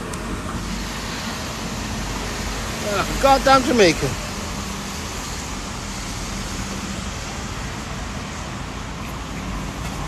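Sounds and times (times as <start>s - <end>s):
road traffic hiss and rumble: 0.0s - 10.0s.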